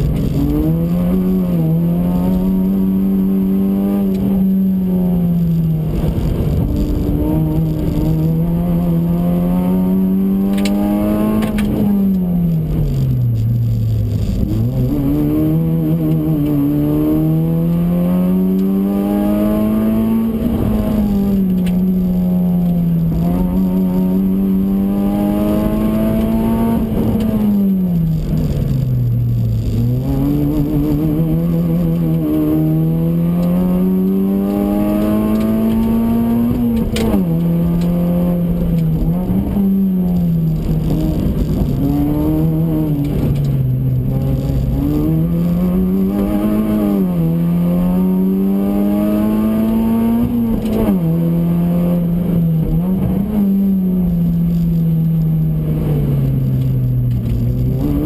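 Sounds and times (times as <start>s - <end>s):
car engine at full throttle: 0.0s - 58.0s
road and wind noise: 0.0s - 58.0s.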